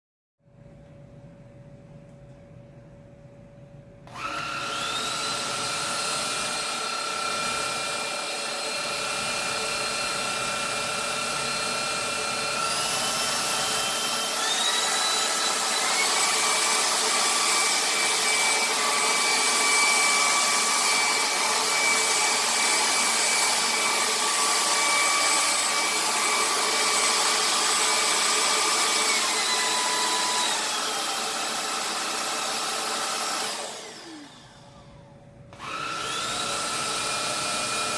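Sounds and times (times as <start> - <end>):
vacuum cleaner motor whine: 4.0 - 37.9.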